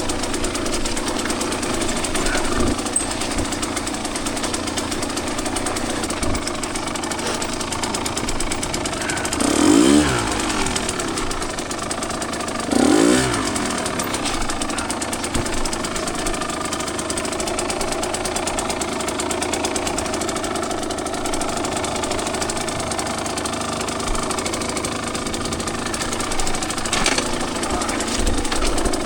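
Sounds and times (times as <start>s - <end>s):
sharp clatter: 0.0s - 29.0s
two-stroke dirt bike engine: 0.0s - 29.0s.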